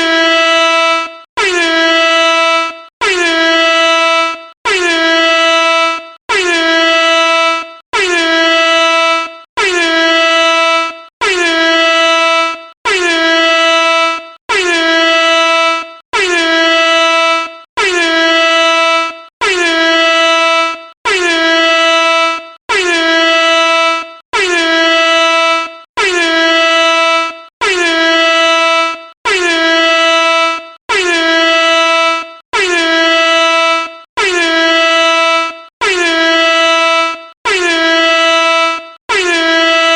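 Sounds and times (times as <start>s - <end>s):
air horn blasts: 0.0s - 39.9s.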